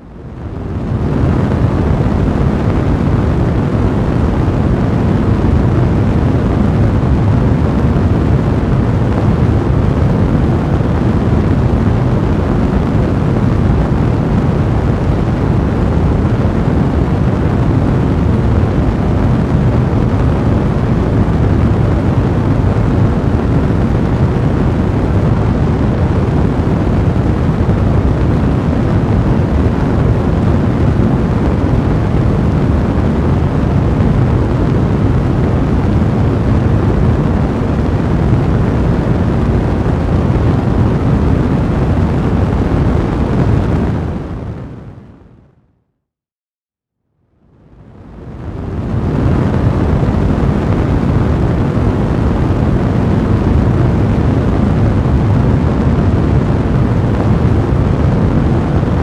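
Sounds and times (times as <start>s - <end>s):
fire burning with low rumble: 0.0s - 45.6s, 47.3s - 59.0s.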